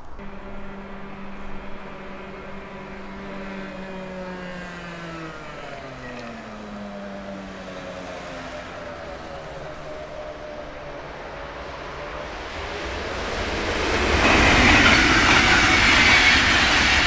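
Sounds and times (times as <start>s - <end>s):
vehicle motor hum: 0.0s - 17.0s.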